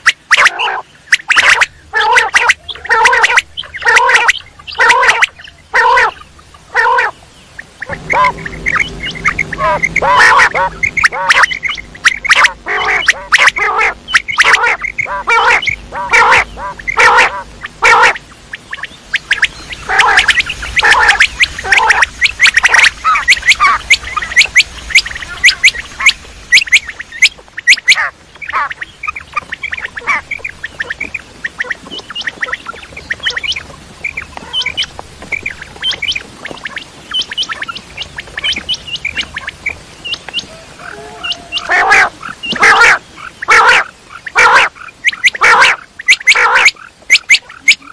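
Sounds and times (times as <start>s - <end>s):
quails calling: 0.0s - 47.9s.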